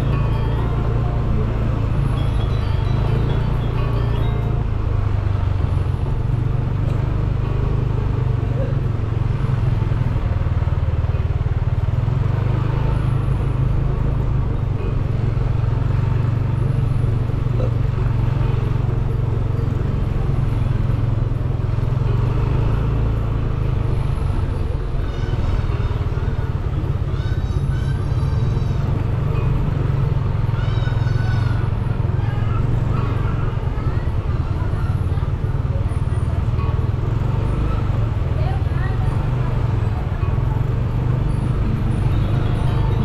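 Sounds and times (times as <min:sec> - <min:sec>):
car engine rumbling: 0:00.0 - 0:43.0
passing vehicles and scooters: 0:00.0 - 0:43.0
road noise: 0:00.0 - 0:43.0.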